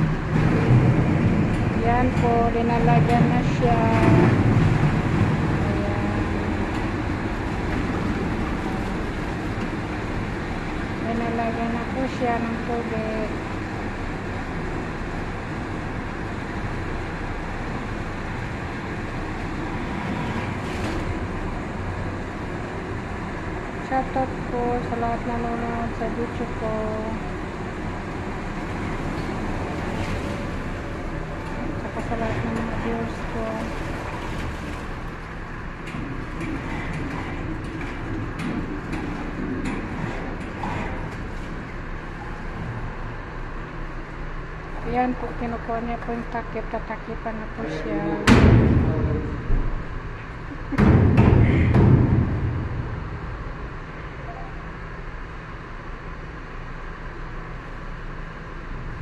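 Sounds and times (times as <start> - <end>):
water refilling machine humming: 0.0 - 51.2.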